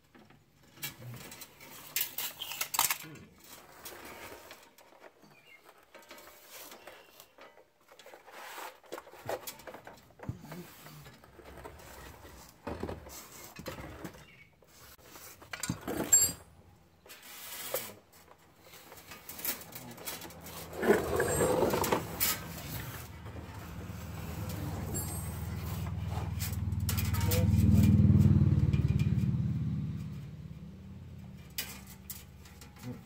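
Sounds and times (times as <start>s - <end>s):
scraping under a car: 0.4s - 29.2s.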